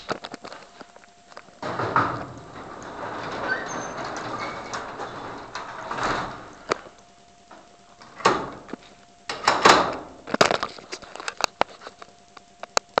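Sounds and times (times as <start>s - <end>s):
sharp clicks and knocks: 1.3s - 12.9s.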